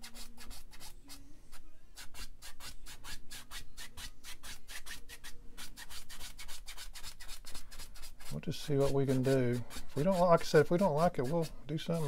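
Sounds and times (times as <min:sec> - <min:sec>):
paintbrush scrubbing on canvas: 0:02.0 - 0:12.0.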